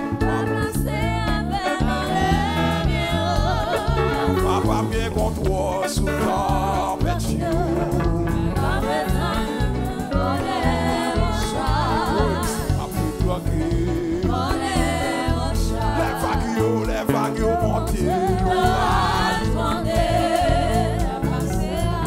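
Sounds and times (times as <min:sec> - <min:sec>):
instruments with pulsing bass: 0:00.0 - 0:22.0
voices singing with vibrato: 0:00.0 - 0:22.0.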